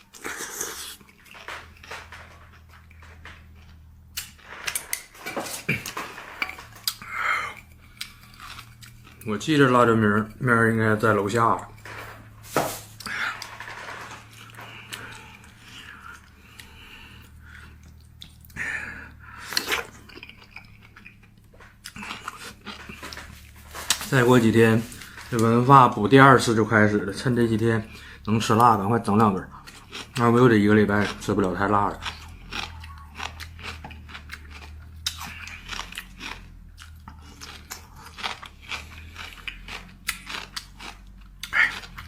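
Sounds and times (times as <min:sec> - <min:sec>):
person chewing: 0:00.0 - 0:26.6, 0:27.2 - 0:42.0
low steady hum: 0:00.0 - 0:42.0.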